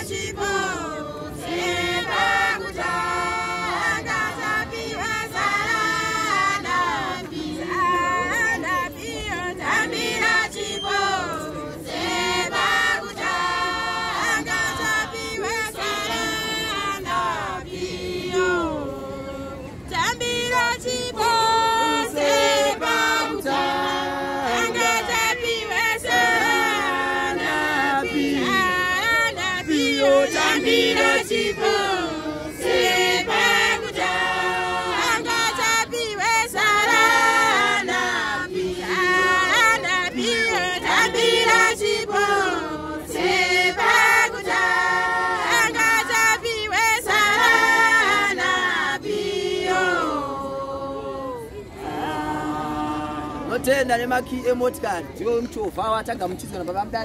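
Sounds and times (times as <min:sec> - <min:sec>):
congregation singing a hymn: 0:00.0 - 0:54.2.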